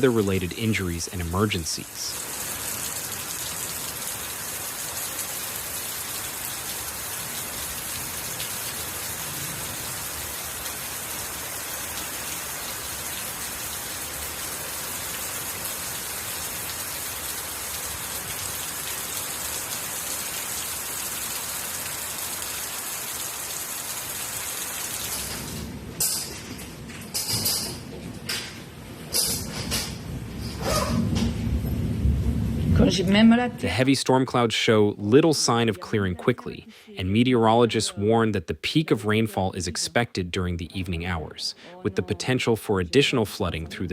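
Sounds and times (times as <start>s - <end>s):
heavy rain on hard surfaces: 0.0s - 38.4s, 40.6s - 43.9s.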